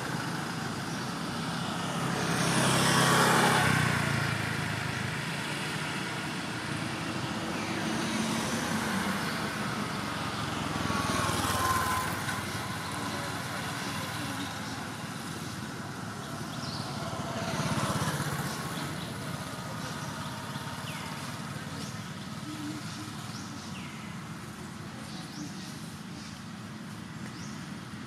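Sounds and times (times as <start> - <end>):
vehicle passing: 0.0 - 26.9
road traffic noise: 0.0 - 28.0.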